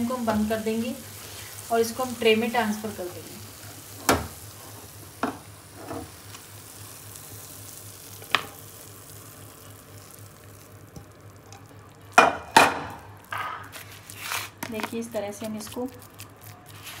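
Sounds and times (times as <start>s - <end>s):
faint steady hiss: 0.0s - 15.9s.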